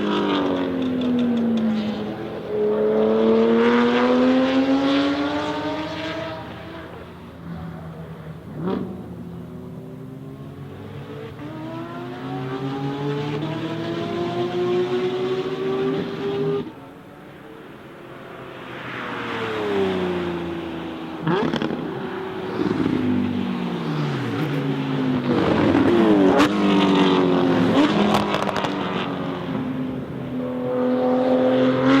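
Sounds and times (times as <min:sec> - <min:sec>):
sports car engine accelerating hard: 0:00.0 - 0:16.8, 0:19.1 - 0:32.0.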